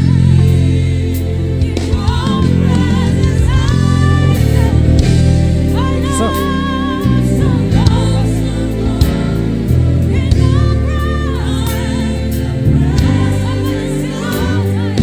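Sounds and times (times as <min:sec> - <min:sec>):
band with bass and chords: 0:00.0 - 0:15.0
gospel singing: 0:00.0 - 0:15.0.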